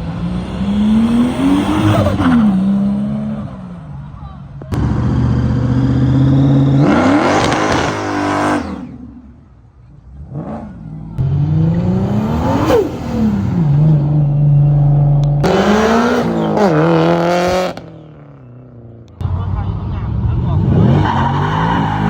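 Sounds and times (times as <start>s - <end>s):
car engine revving: 0.0s - 18.2s, 18.8s - 22.0s.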